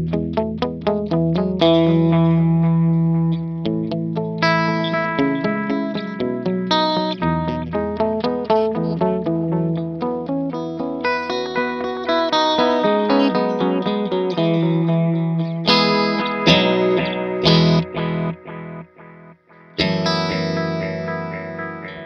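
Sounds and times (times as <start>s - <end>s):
electric guitar with delay echoes: 0.0s - 22.0s.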